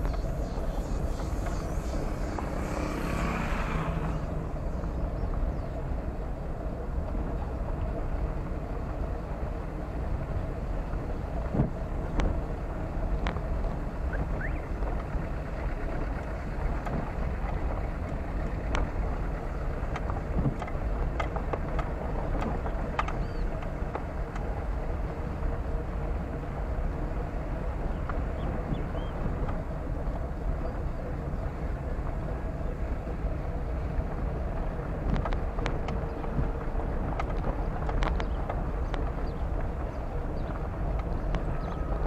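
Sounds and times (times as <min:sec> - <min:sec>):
car driving rumble: 0:00.0 - 0:42.0.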